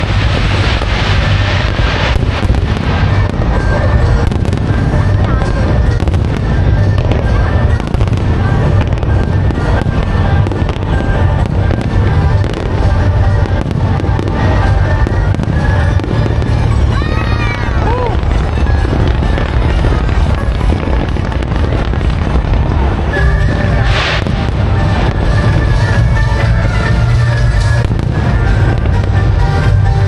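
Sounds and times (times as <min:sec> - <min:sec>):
fireworks bursting and crackling: 0:00.0 - 0:30.0
loud low rumble: 0:00.0 - 0:30.0
music playing: 0:00.0 - 0:30.0.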